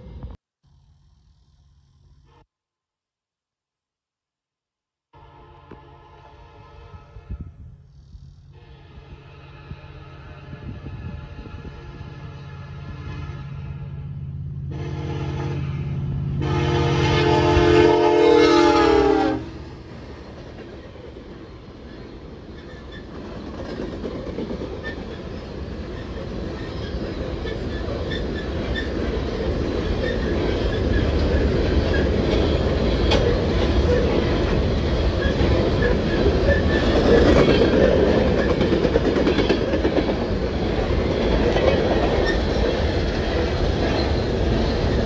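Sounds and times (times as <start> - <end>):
freight train wheels rumbling: 5.6 - 45.0.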